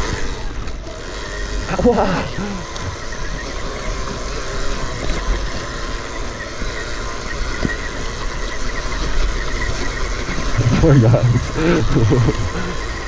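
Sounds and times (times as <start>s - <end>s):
faint high motor whine: 0.0s - 13.0s.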